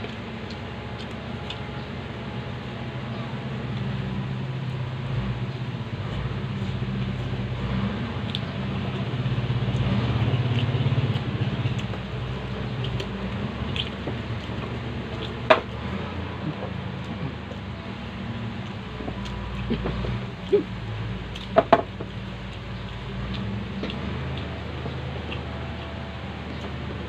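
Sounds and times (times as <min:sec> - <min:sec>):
wet chewing and mouth smacking: 0:00.0 - 0:04.0, 0:06.0 - 0:27.0
low steady hum: 0:00.0 - 0:27.0.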